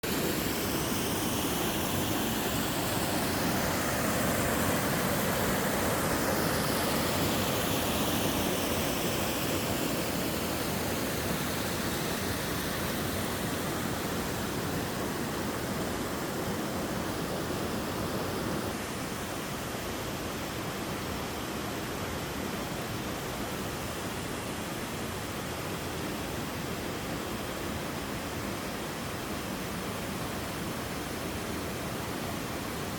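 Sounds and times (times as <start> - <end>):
waterfall water rushing: 0.0 - 32.9.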